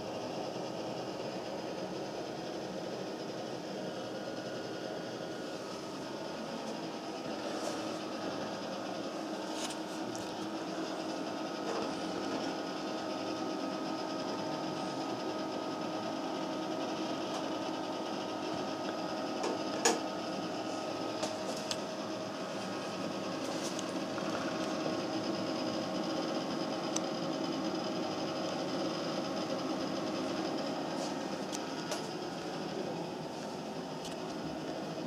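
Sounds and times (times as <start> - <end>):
computer fans whirring: 0.0 - 35.0.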